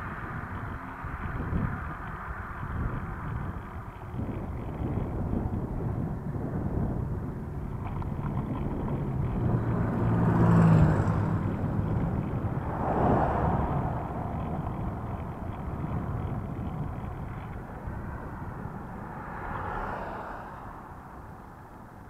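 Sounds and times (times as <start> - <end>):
vehicles passing: 0.0 - 22.0
wind and road noise: 0.0 - 22.0.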